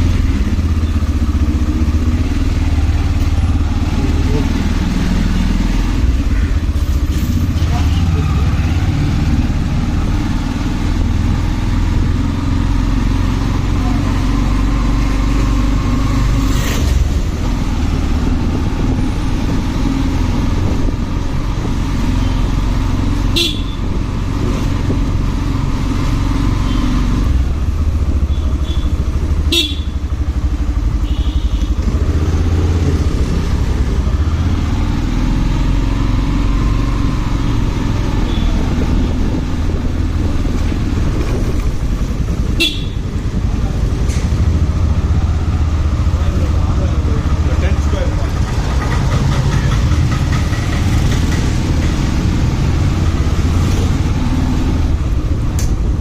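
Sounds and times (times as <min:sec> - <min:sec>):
motorcycle engine running: 0:00.0 - 0:56.0
road and wind noise: 0:00.0 - 0:56.0.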